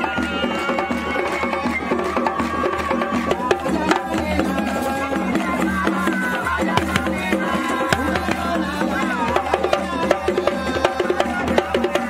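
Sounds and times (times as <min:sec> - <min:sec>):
hand drums fast rhythm: 0:00.0 - 0:12.0.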